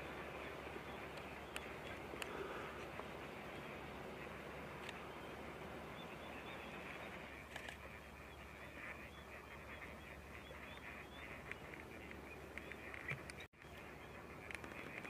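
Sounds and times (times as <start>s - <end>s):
ducks calling: 0.0s - 15.0s.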